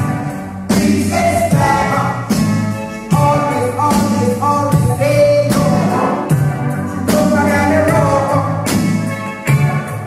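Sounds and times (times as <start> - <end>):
loud music with singing: 0.0 - 10.0.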